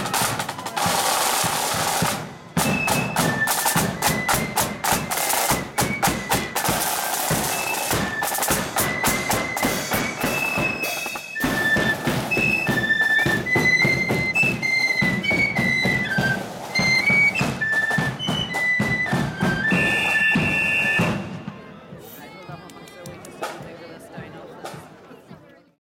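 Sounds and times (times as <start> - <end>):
high flute melody: 0.0 - 21.7
marching drum beat: 0.0 - 25.0.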